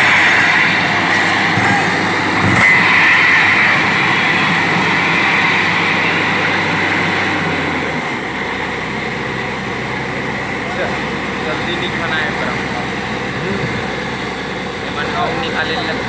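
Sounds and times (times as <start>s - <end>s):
drilling rig running: 0.0s - 16.0s.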